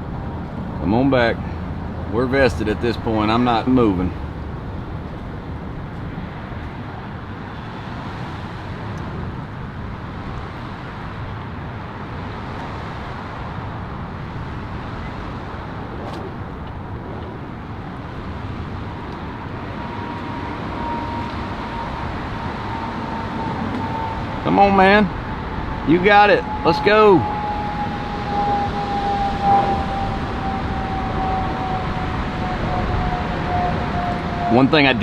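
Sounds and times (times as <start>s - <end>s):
faint steady whine: 0.0s - 35.0s
truck engine rumbling: 0.0s - 35.0s.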